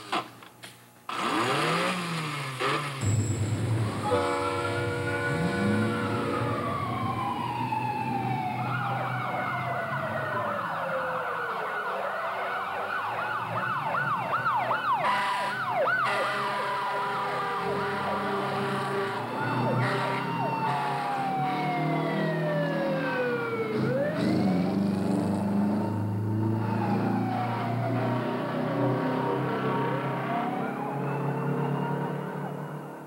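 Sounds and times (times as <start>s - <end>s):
fire engine sirens wailing: 2.6s - 33.0s
fast siren yelp: 3.7s - 33.0s.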